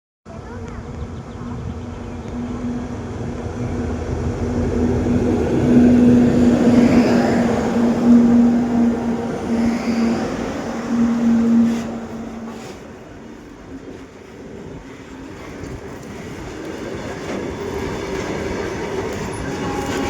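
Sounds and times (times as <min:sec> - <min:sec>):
train rumbling: 0:00.3 - 0:20.0.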